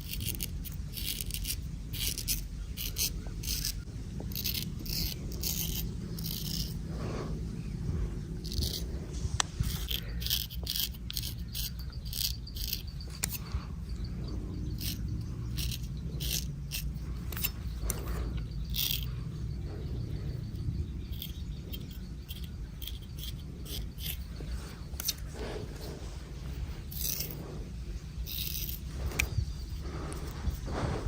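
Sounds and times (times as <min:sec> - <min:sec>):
low background hum: 0:00.0 - 0:31.0
razor scraping hair and skin: 0:00.0 - 0:31.0.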